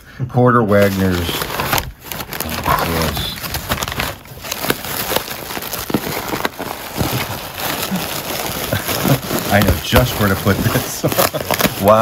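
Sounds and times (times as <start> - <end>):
packing material rustling and crinkling: 0.7 - 12.0.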